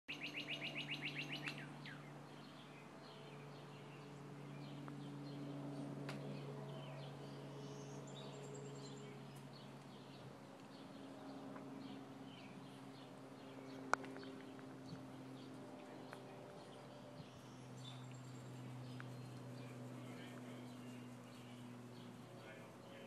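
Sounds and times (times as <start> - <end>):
low hum: 0.1 - 23.0
songbirds chirping: 0.1 - 23.0.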